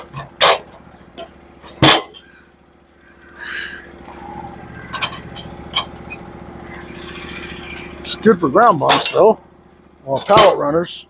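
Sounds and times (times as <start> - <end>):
gas engine running: 0.0 - 11.0.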